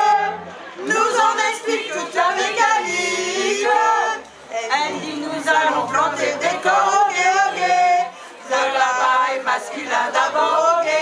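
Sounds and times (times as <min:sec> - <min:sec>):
group singing in unison: 0:00.0 - 0:11.0.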